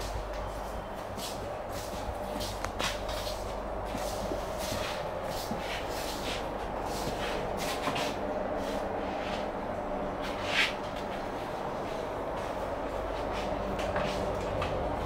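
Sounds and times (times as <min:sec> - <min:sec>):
footsteps shuffling and rustling: 0:00.0 - 0:15.0
steady train coach hum: 0:00.0 - 0:15.0.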